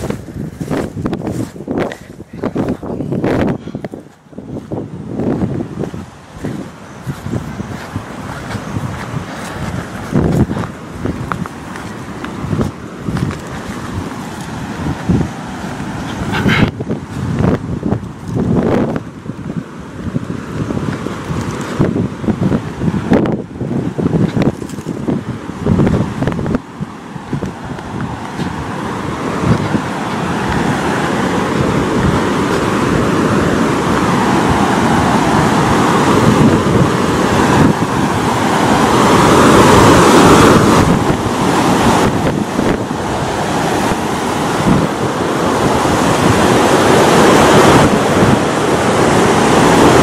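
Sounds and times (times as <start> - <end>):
river rushing over rocks: 0.0 - 50.0.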